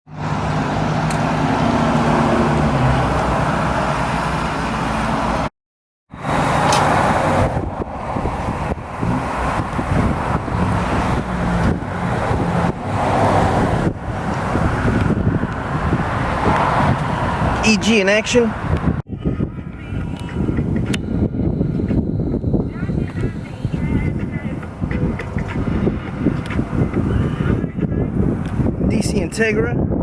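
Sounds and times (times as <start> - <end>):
road noise: 0.1 - 5.5, 6.1 - 30.0.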